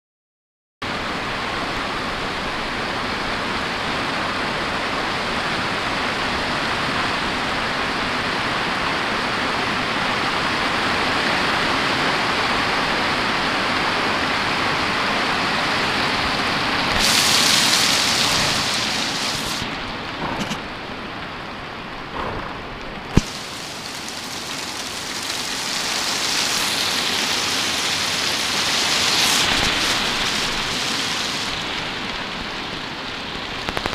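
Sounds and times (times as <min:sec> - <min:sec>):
hard rain with hail: 0:00.9 - 0:33.9.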